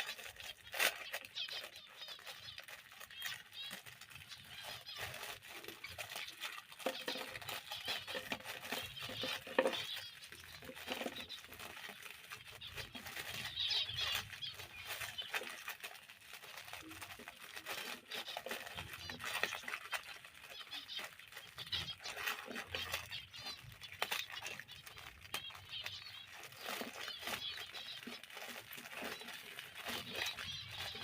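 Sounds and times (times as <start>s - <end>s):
cage birds chirping: 0.0s - 31.0s
rustling: 0.0s - 31.0s.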